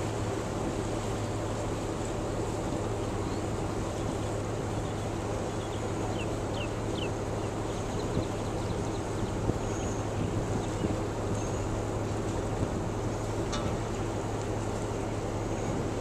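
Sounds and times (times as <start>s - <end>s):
boat engine humming: 0.0s - 16.0s
water noise: 0.0s - 16.0s
wind: 0.0s - 16.0s.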